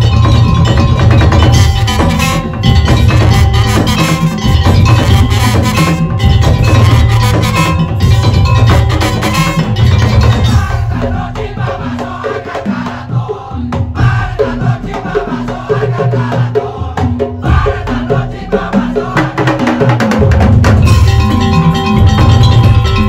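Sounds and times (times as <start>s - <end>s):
percussion ensemble with gongs: 0.0s - 23.0s.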